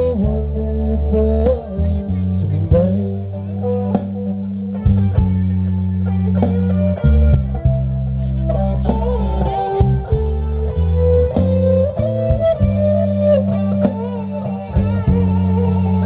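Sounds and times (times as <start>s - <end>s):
electric guitar lead with bent notes: 0.0s - 16.0s
sustained bass notes: 0.0s - 16.0s.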